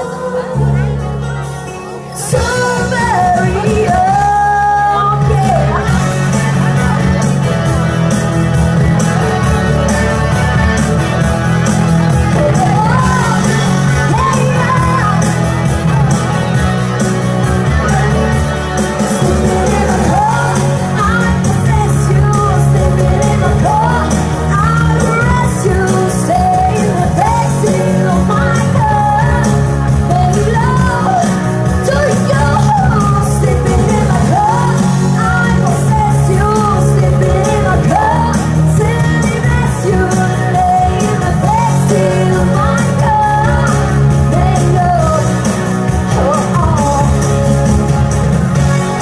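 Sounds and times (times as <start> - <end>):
woman singing into microphone: 0.0 - 7.2, 12.1 - 15.9, 17.6 - 47.6
loud pop-rock backing music: 0.0 - 49.0.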